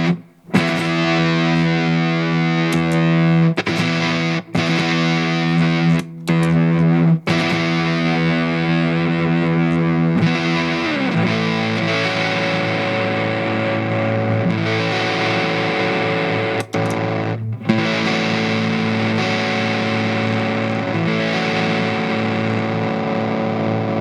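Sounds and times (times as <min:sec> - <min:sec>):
distorted electric guitar notes: 0:00.0 - 0:24.0.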